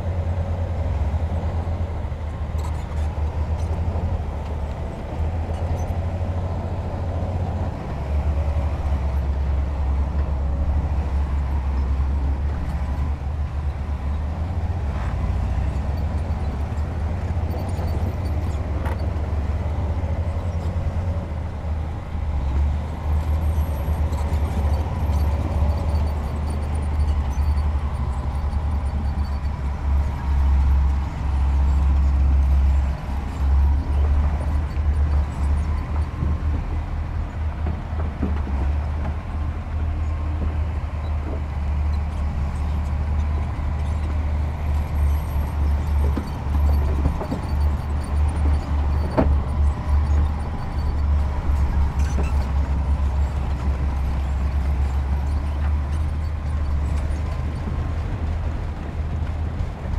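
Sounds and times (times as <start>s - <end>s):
diesel engine low rumble: 0.0s - 59.9s.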